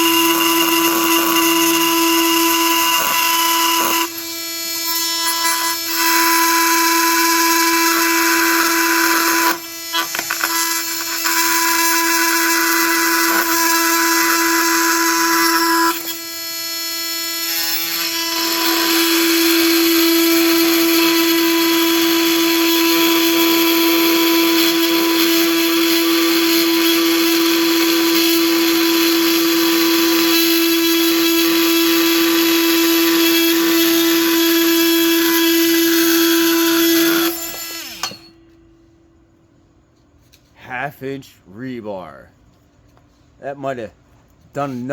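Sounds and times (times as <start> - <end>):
multi-tool cutting steel: 0.0 - 38.7.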